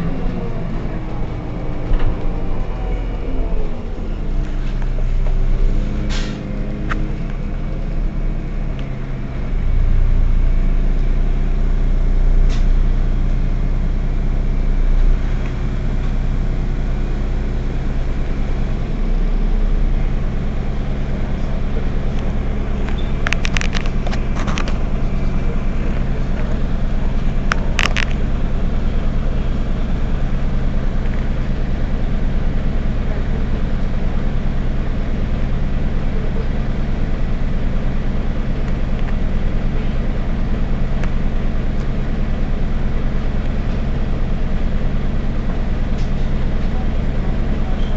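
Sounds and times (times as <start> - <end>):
bus diesel engine idling: 0.0 - 47.9.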